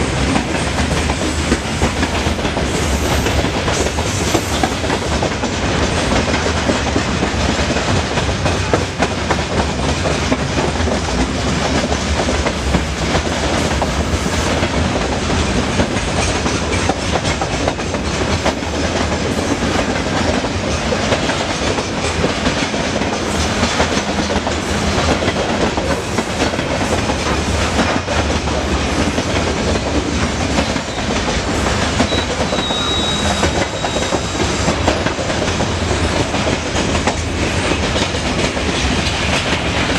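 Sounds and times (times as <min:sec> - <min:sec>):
freight train wheels clattering on rails: 0:00.0 - 0:39.9.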